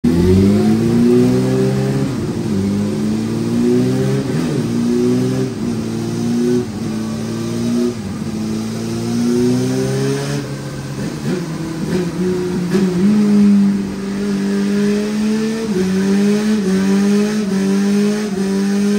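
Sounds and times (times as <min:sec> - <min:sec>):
motorcycle engine revving on dyno: 0:00.0 - 0:18.9.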